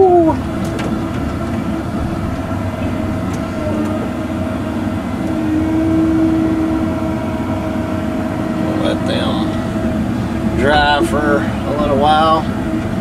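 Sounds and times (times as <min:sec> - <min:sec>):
excavator diesel engine under load: 0:00.0 - 0:13.0
steady whine: 0:00.0 - 0:13.0.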